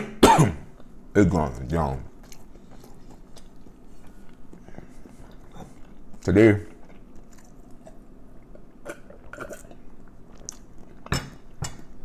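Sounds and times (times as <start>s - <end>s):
man drinking and chewing: 2.2s - 12.0s.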